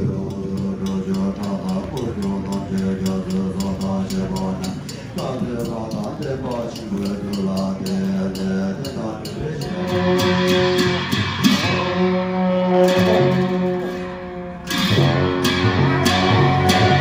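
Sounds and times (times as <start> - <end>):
frame drums beating: 0.0 - 14.0, 14.7 - 17.0
cymbals beating: 0.0 - 17.0.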